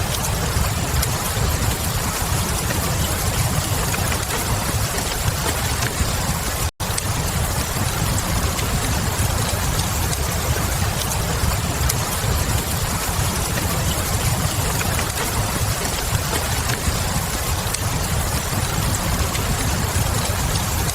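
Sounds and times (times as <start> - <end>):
rain hiss: 0.0 - 20.9
wood fire crackles: 0.0 - 20.9.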